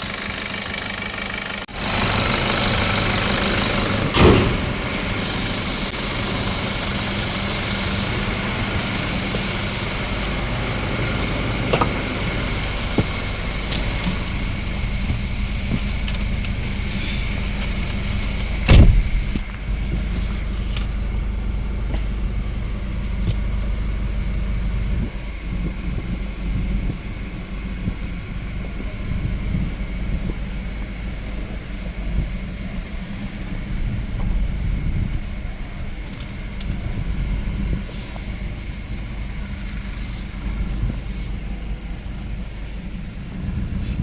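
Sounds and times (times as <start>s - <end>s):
thin steady whine: 0.0s - 43.8s
diesel engine rumble: 0.0s - 44.0s.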